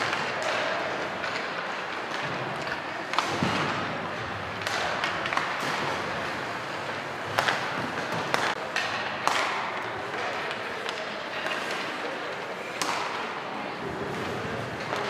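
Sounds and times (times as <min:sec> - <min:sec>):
hockey pucks cracking off sticks: 0:00.0 - 0:15.0
pucks banging into boards: 0:00.0 - 0:15.0.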